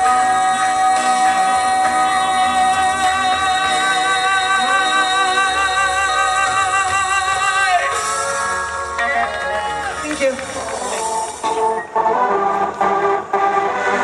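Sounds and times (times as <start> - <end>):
backing track music: 0.0 - 14.0
person singing with vibrato: 0.0 - 14.0.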